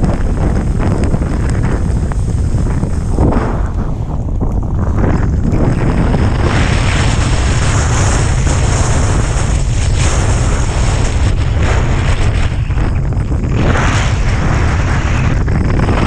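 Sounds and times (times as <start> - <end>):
snowboard sliding through snow: 0.0 - 16.0
wind rumbling on microphone: 0.0 - 16.0.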